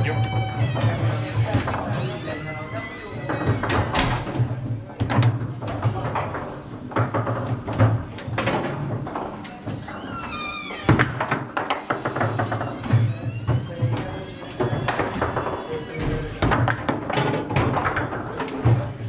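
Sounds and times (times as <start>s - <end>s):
foosball ball knocks and clacks: 3.3s - 19.0s.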